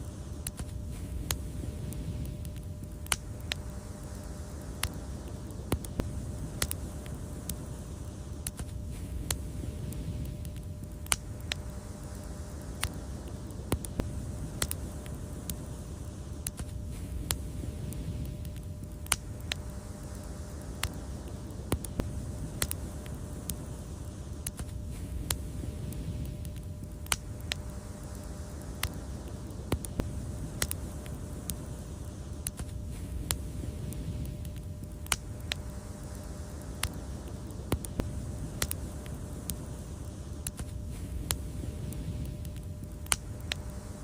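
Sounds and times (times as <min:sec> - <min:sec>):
low rumble of burning fire: 0:00.0 - 0:44.0
wood fire popping and snapping: 0:00.0 - 0:44.0.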